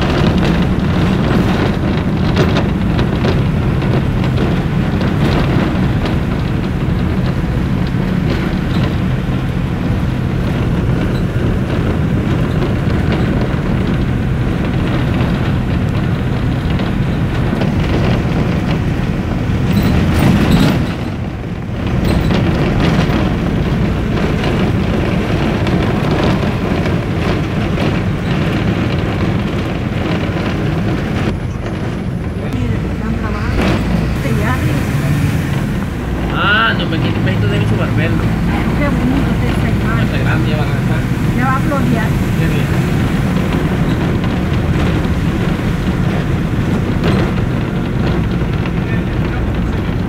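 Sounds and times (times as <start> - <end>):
vehicle road and engine rumble: 0.0 - 50.0.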